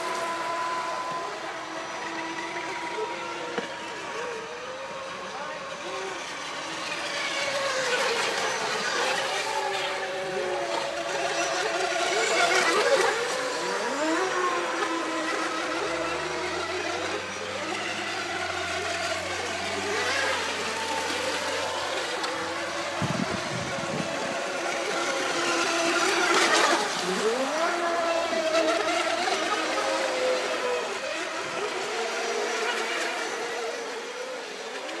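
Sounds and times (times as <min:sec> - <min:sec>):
electric model boat motors whining: 0:00.0 - 0:35.0.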